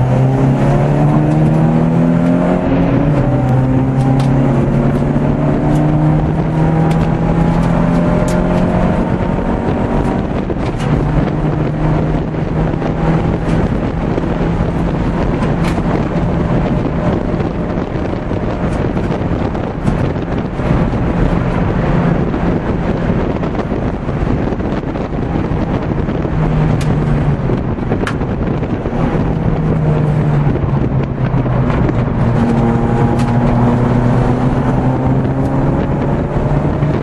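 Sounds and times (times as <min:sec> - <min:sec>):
car engine pulling hard: 0:00.0 - 0:37.0
road and wind noise: 0:00.0 - 0:37.0.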